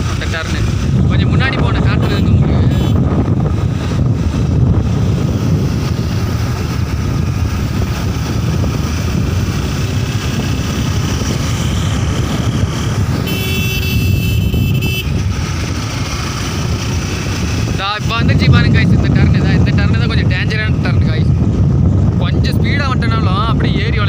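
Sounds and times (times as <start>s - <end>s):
motorcycle engine: 0.0s - 22.2s
road noise: 0.0s - 24.0s
wind buffeting microphone: 0.0s - 24.0s.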